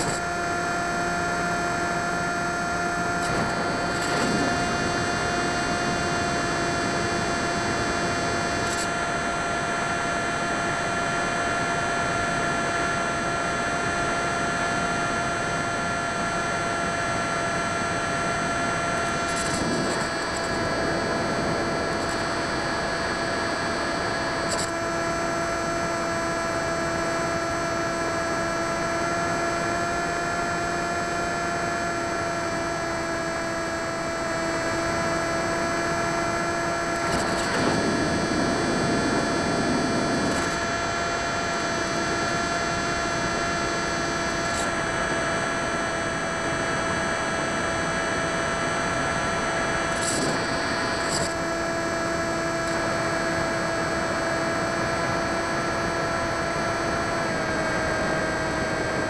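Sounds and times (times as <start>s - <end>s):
electric motor and propeller whine: 0.0s - 59.0s.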